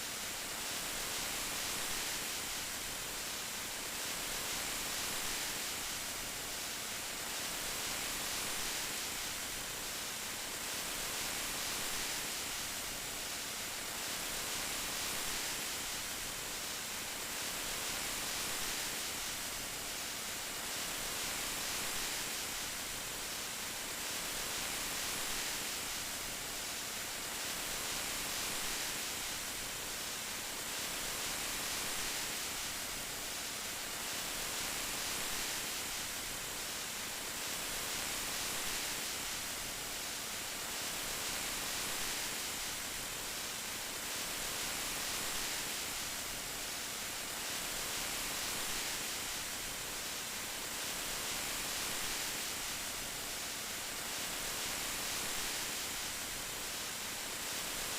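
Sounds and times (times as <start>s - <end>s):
heavy rain hissing: 0.0s - 57.9s.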